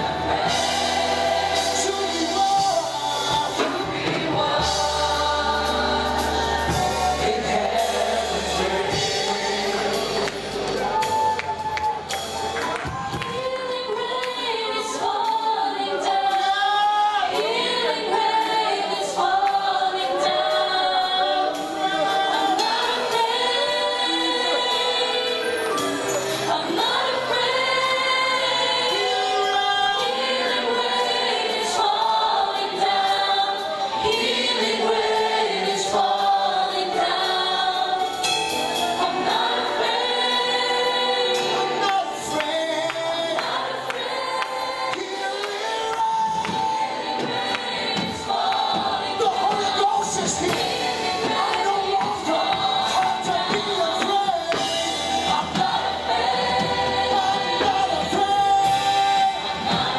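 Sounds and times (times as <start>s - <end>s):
group singing worship song: 0.0s - 59.9s.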